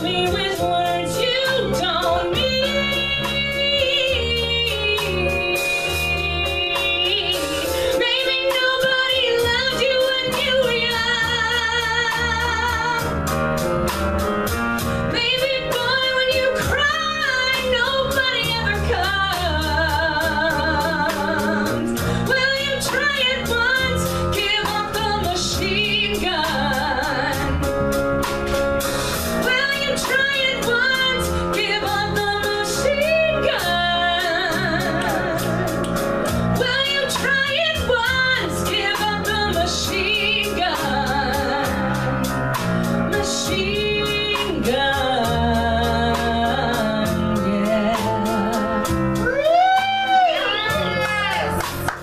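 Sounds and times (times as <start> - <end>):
woman singing with vibrato: 0.0 - 13.1, 15.1 - 27.6, 29.4 - 35.9, 36.6 - 42.4, 43.1 - 52.0
band playing guitar bass and drums: 0.0 - 52.0.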